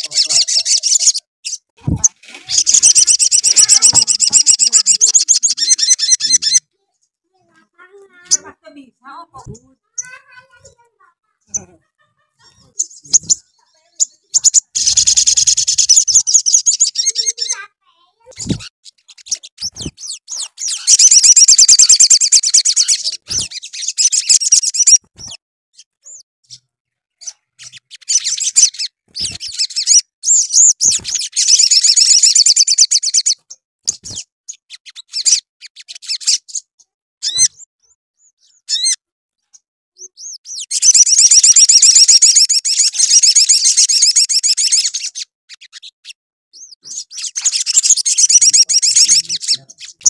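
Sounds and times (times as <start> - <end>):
bird twittering song: 0.0 - 7.2, 9.4 - 10.8, 12.4 - 50.0
bird chirps: 0.0 - 8.6, 9.4 - 50.0.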